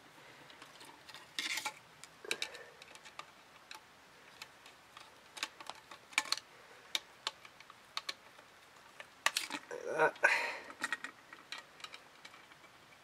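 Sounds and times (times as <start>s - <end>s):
cable rustling: 0.0s - 13.0s.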